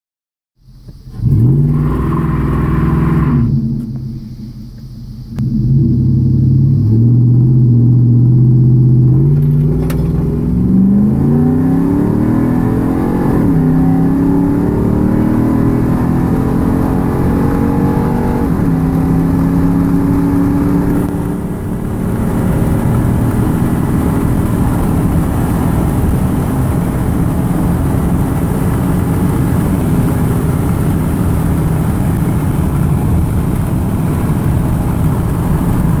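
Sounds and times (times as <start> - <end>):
car engine accelerating: 0.8 - 36.0.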